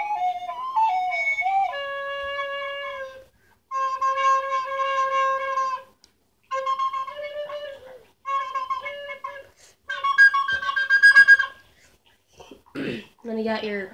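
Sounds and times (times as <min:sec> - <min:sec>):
recorder notes: 0:00.0 - 0:11.7.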